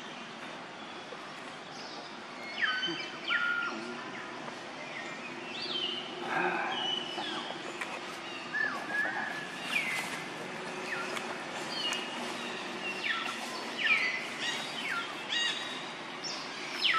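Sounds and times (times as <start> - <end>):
birds chirping: 0.0 - 16.9
steady background hiss: 0.0 - 16.9.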